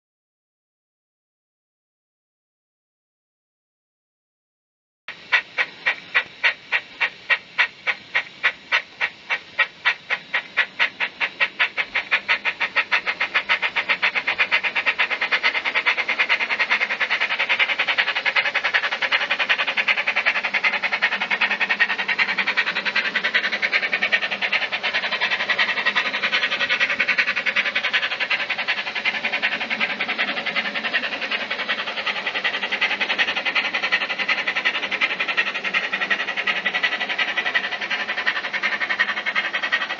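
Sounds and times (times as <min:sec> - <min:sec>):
steam locomotive chuffing: 0:05.1 - 0:39.9.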